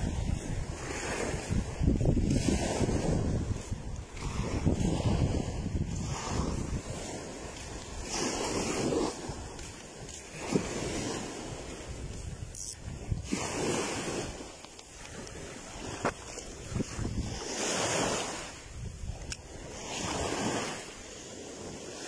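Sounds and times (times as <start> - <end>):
gusty wind buffeting microphone: 0.0 - 22.0
storm waves washing onto shore: 0.0 - 22.0.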